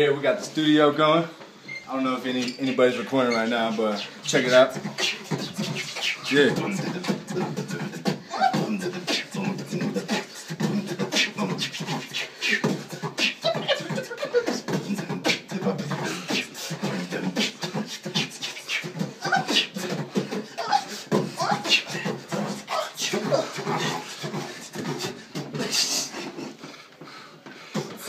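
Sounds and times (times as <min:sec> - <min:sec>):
person beatboxing: 0:03.6 - 0:28.0.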